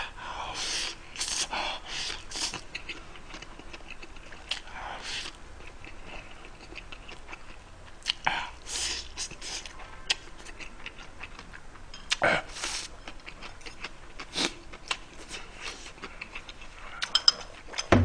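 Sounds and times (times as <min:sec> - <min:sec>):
person chewing noodles: 0:00.5 - 0:17.9.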